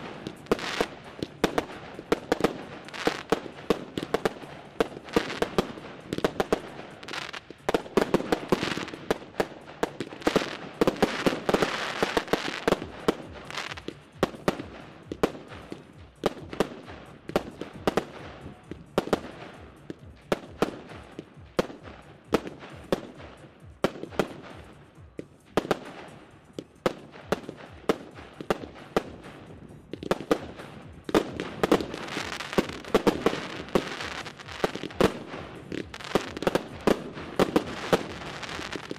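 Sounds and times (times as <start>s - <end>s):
fireworks bangs: 0.0s - 24.8s, 25.6s - 38.9s
fireworks crackling: 0.0s - 38.9s.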